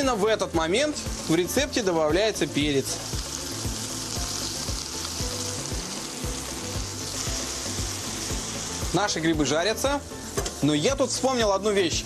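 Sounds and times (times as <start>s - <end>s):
background music with low beat: 0.0s - 12.0s
mushrooms sizzling in a pan: 0.0s - 12.0s.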